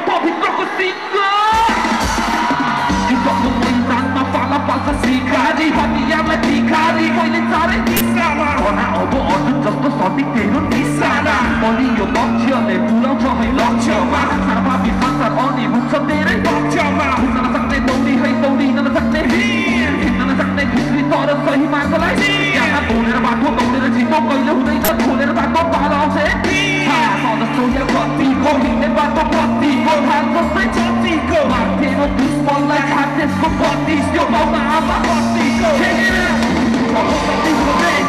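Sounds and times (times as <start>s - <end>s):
live rock band music: 1.5s - 38.0s
bass line: 1.6s - 38.0s
man singing into microphone: 2.8s - 38.0s.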